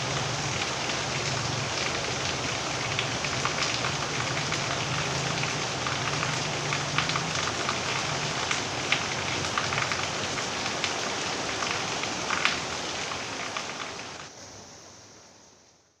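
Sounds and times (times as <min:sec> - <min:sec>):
rain falling: 0:00.0 - 0:14.4.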